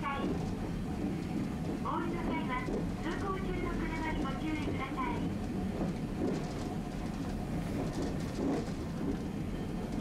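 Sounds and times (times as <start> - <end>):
streetcar interior rumble: 0.0 - 10.0.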